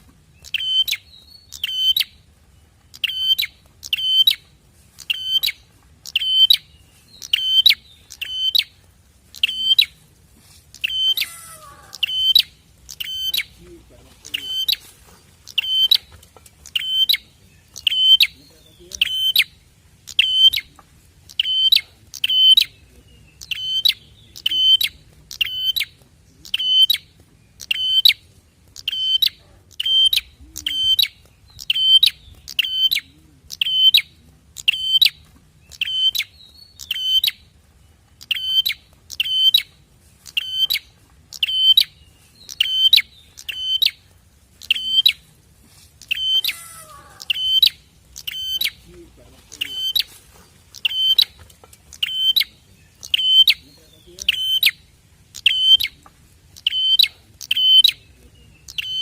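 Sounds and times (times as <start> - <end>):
bird sharp high chirps: 0.0 - 10.0, 10.7 - 37.5, 38.2 - 44.0, 44.6 - 45.3, 46.0 - 59.0.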